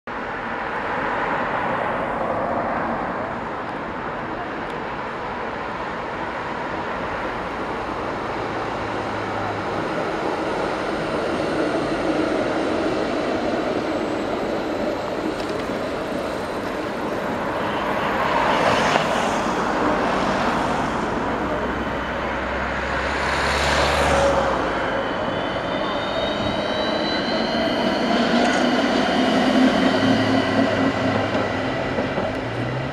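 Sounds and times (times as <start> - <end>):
road traffic rumble: 0.1 - 32.9
tram passing: 0.1 - 32.9.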